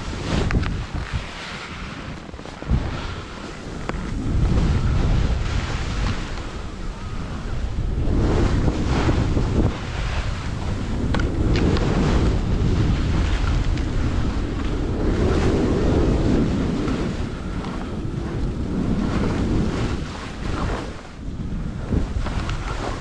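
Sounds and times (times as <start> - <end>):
skis scraping on snow: 0.0 - 23.0
wind buffeting microphone: 0.0 - 23.0.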